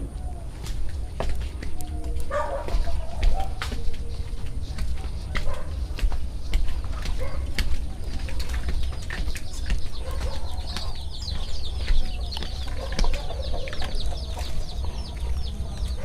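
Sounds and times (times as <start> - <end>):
chickens clucking: 0.0 - 16.0
chicks peeping: 0.0 - 16.0.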